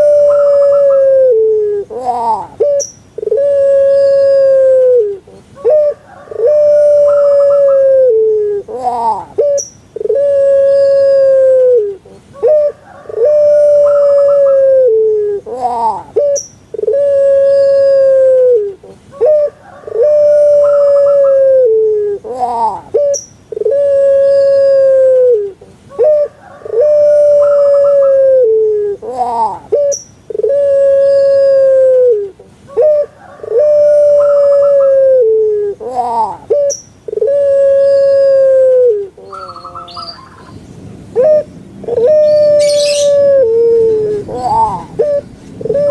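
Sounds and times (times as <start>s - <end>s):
dove cooing: 0.0s - 45.9s.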